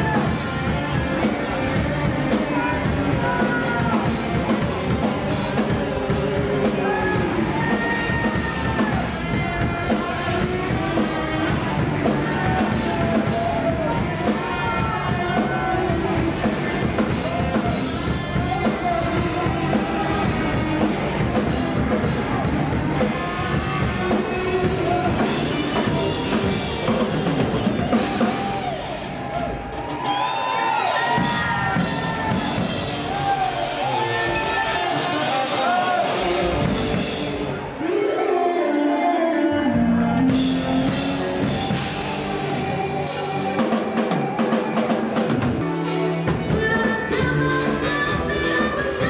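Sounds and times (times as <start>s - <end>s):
rock band playing: 0.0s - 38.6s, 39.6s - 49.0s
bending lead guitar line: 0.0s - 49.0s.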